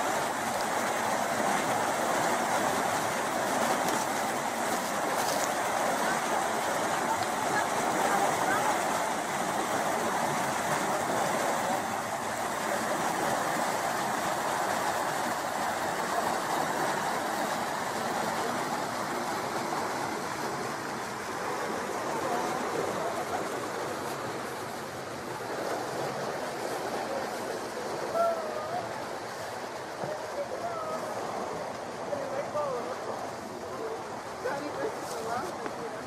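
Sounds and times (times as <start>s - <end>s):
water rushing and churning: 0.0s - 36.0s.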